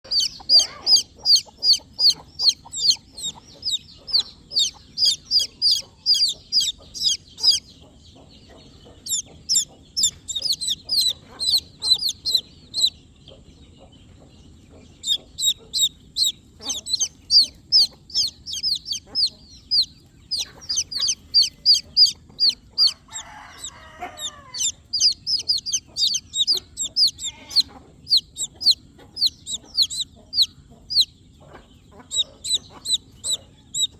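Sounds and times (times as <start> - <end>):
baby chicks peeping: 0.0 - 33.9.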